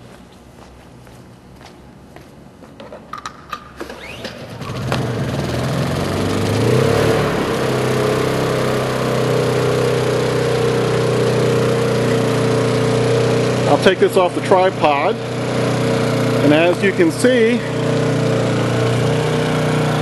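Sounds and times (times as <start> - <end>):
generator engine running: 4.0 - 20.0.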